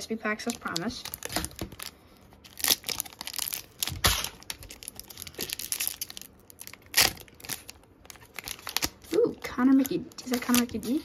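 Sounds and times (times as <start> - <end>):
foil wrapper ripping and crinkling: 0.3 - 11.0.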